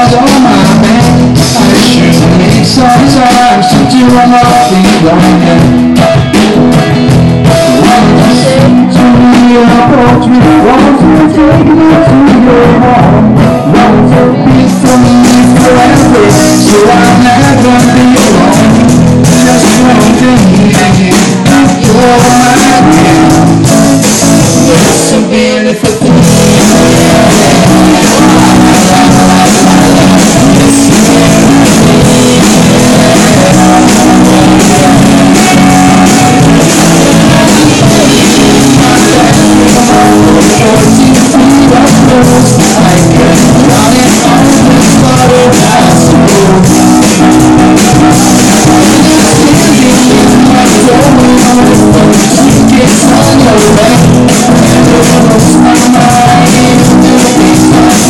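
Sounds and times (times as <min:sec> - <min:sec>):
drum kit: 0:00.0 - 0:58.0
electric guitar: 0:00.0 - 0:58.0
person singing: 0:00.0 - 0:58.0.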